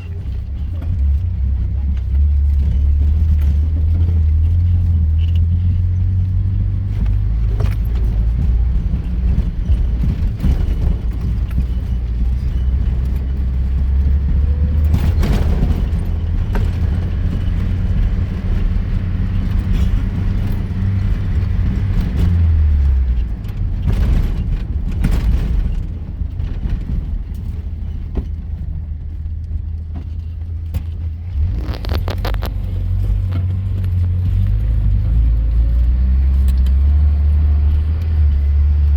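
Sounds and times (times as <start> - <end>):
vehicle engine and tyres rumbling: 0.0 - 38.9
knocks and rattles: 0.2 - 38.9.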